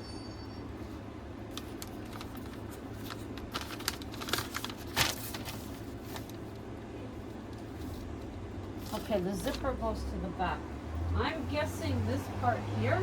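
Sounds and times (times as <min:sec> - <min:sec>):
low background noise: 0:00.1 - 0:13.0.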